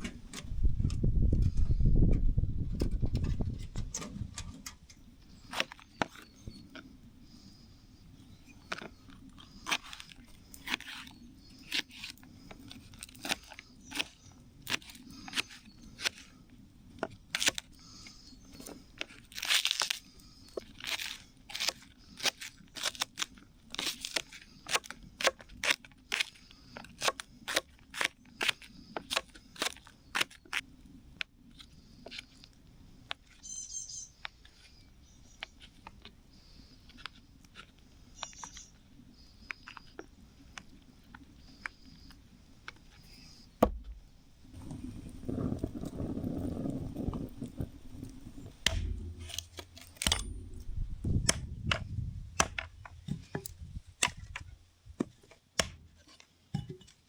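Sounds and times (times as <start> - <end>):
sharp crunches and cracks: 2.8 - 7.4, 8.5 - 33.4, 34.2 - 57.0.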